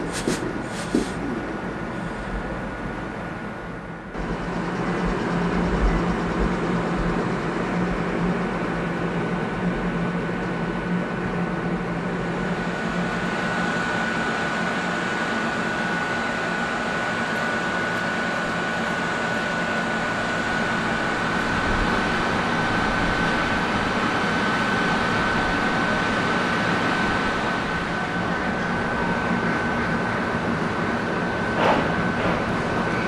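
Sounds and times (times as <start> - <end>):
train equipment humming: 0.0 - 33.0.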